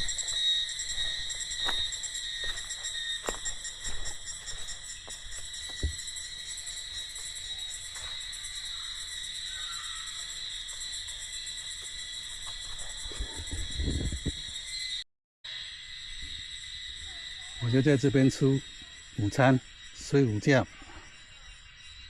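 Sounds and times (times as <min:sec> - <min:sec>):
insects singing: 0:00.0 - 0:22.0.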